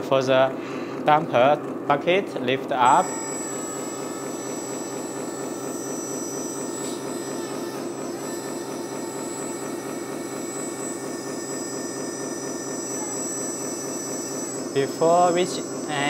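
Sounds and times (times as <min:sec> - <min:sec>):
electric hydraulic pump whining: 0:02.8 - 0:16.0.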